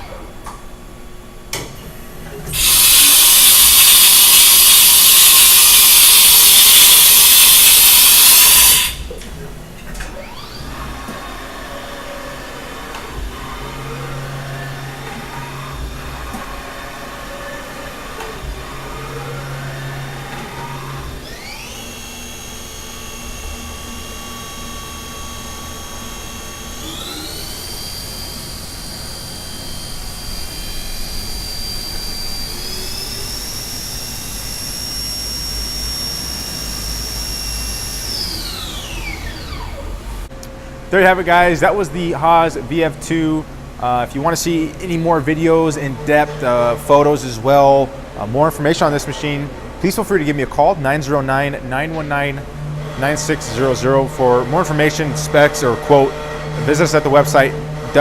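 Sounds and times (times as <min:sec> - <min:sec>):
machine drives whining: 0:00.0 - 0:58.0
spindle spinning with steady whine: 0:00.0 - 0:58.0.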